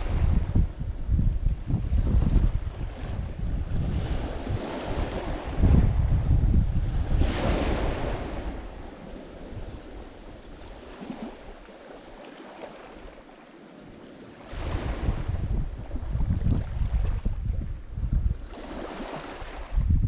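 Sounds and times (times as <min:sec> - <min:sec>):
waves breaking on shore: 0:00.0 - 0:17.5, 0:18.3 - 0:19.9
wind rumble on microphone: 0:00.0 - 0:20.0.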